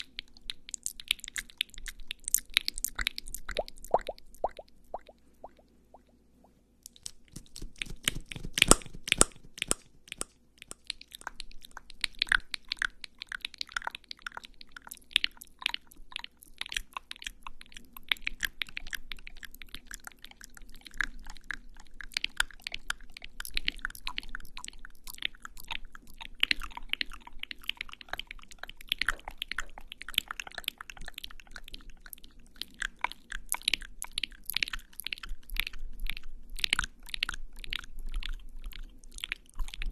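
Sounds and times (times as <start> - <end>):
wet mouth sounds: 0.0 - 6.2, 6.8 - 39.9.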